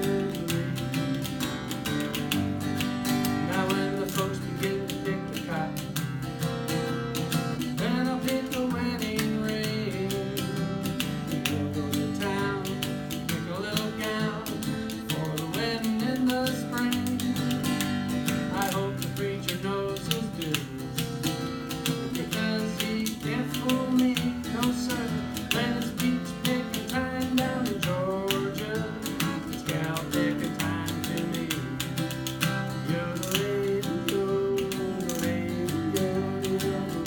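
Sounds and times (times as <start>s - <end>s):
spoons clicking a rhythm: 0.0s - 37.0s
strummed acoustic guitars: 0.0s - 37.0s.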